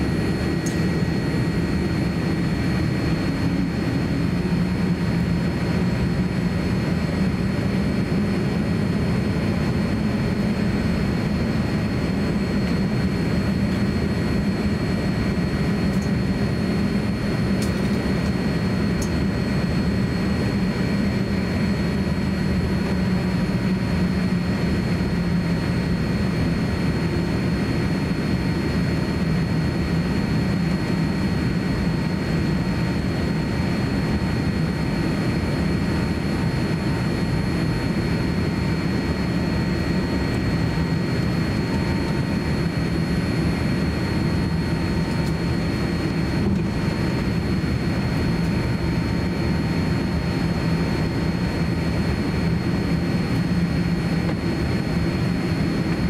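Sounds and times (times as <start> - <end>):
aircraft cabin low hum: 0.0 - 56.0.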